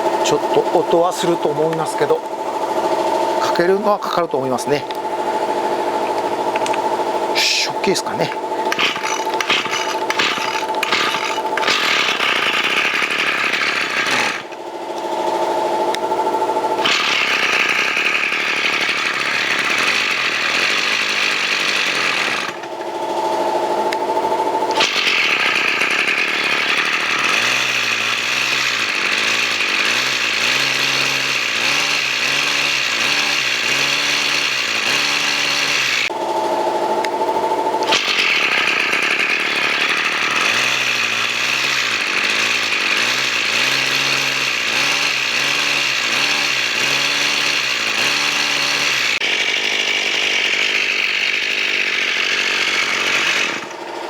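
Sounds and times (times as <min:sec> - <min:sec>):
brush cutter engine revving: 0:00.0 - 0:54.0.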